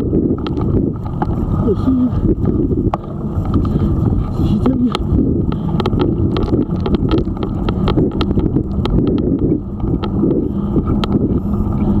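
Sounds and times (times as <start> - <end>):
bike rattling over path: 0.0 - 12.0
wind buffeting microphone: 0.0 - 12.0.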